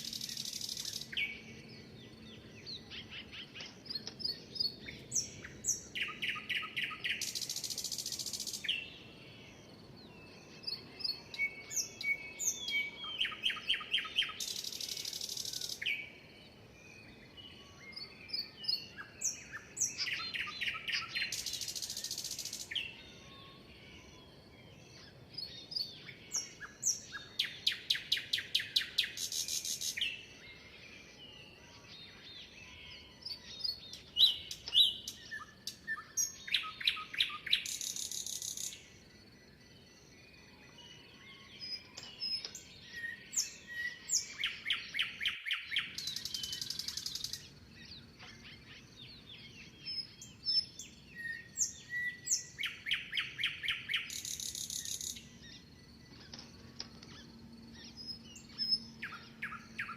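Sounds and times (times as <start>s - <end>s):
bird song with rapid notes and trill: 0.0s - 59.9s.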